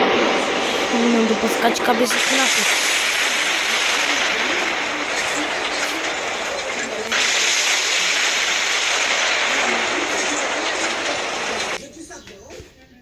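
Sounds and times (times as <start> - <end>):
airliner rushing noise: 0.0 - 11.9
faint voices: 0.0 - 13.0.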